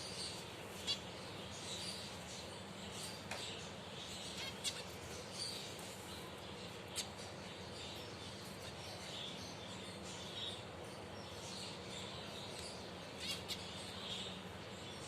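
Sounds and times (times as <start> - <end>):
finches chirping: 0.0 - 15.0
steady background noise: 0.0 - 15.0.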